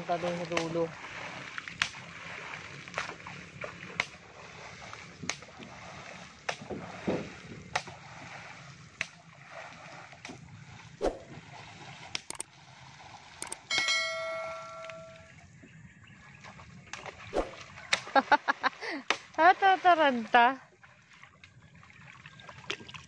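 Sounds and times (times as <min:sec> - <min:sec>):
slapping and splashing water: 0:00.0 - 0:13.8, 0:16.2 - 0:23.0
water lapping: 0:00.0 - 0:23.0.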